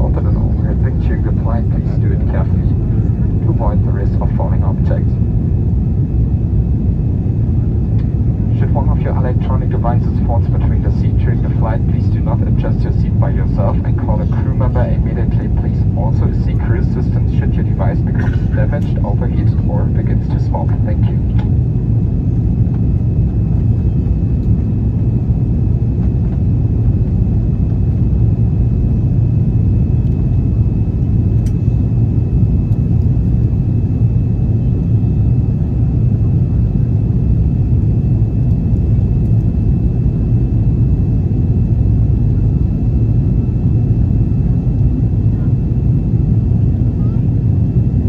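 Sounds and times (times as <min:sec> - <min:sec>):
faint steady whine: 0:00.0 - 0:48.0
jet engines rumbling in cabin: 0:00.0 - 0:48.0.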